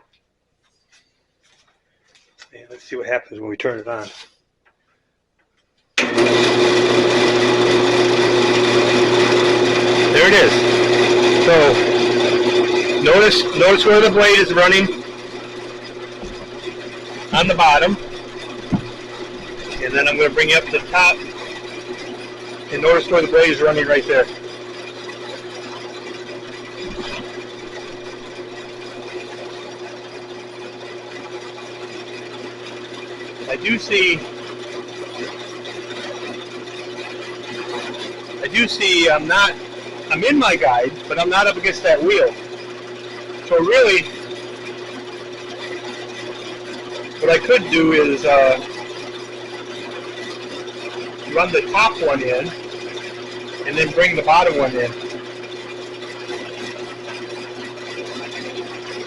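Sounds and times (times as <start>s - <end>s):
bandsaw running: 3.8s - 4.4s, 6.0s - 59.0s.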